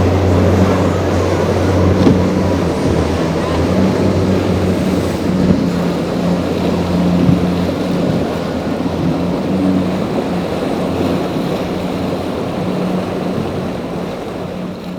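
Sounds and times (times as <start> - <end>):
motorboat engine humming: 0.0 - 14.9
waves rushing: 0.0 - 14.9
wind buffeting microphone: 0.0 - 14.9.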